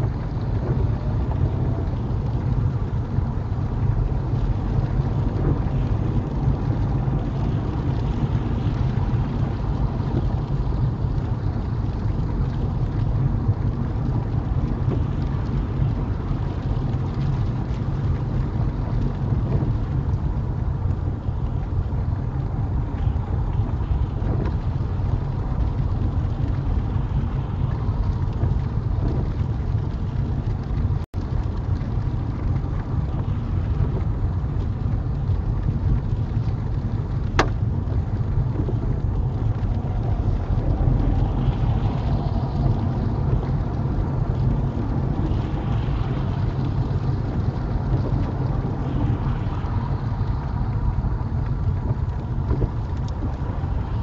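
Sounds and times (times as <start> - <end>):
car engine and tyre rumble: 0.0 - 54.0
hiss of spray and rain: 0.0 - 54.0.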